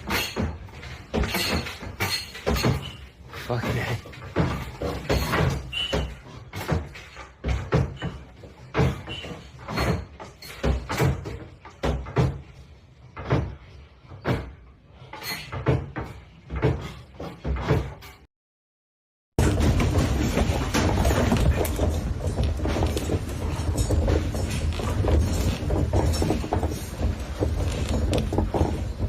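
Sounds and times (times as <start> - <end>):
doors and cupboards banging: 0.0 - 18.3, 19.4 - 29.0.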